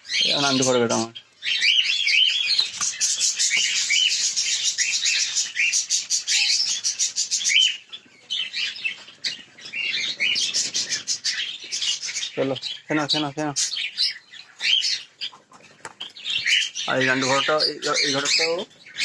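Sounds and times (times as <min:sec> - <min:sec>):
cockatiels chirping and calling: 0:00.0 - 0:19.0.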